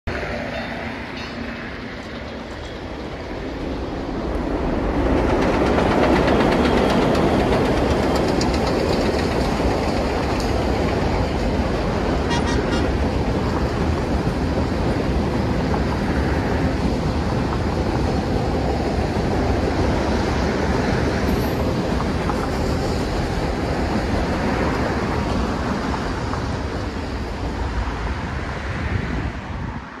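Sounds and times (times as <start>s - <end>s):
train wheels rumbling on rails: 0.1s - 30.0s.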